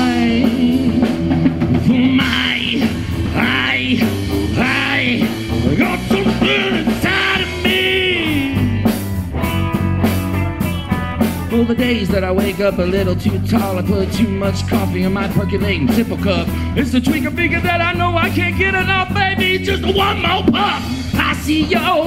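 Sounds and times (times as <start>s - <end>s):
bass guitar: 0.0s - 22.0s
drum kit: 0.0s - 22.0s
electric guitar bending lead line: 0.0s - 22.0s.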